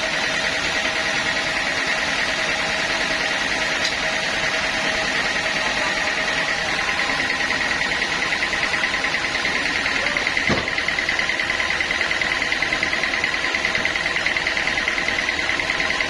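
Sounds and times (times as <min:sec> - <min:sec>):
band saw whining: 0:00.0 - 0:16.0
machinery noise: 0:02.0 - 0:16.0.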